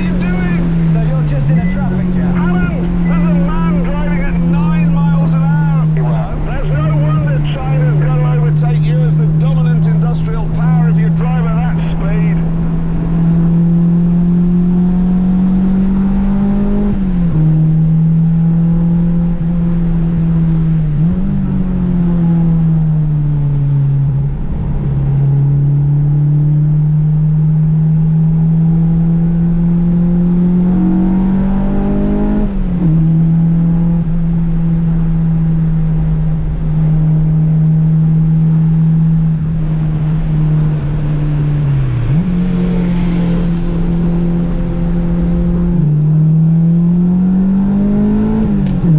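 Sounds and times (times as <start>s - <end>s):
car engine revving through gears: 0.0s - 48.9s.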